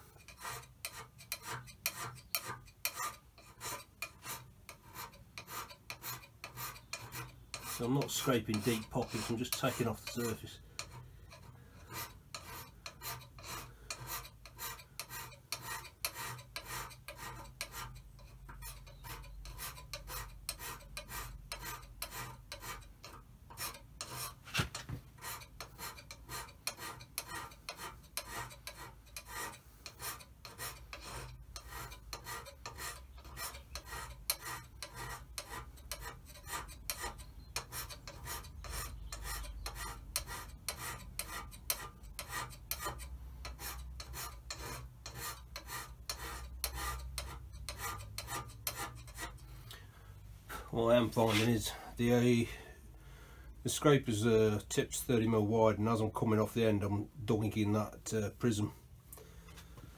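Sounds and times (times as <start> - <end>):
hand scraper rasping on metal: 0.0 - 52.6.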